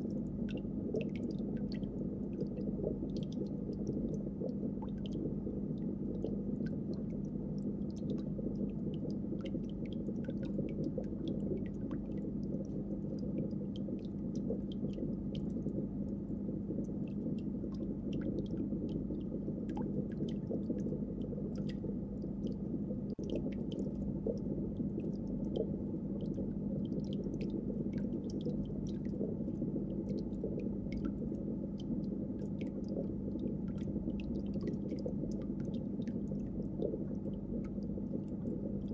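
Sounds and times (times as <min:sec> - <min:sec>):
aquarium hum: 0:00.0 - 0:38.9.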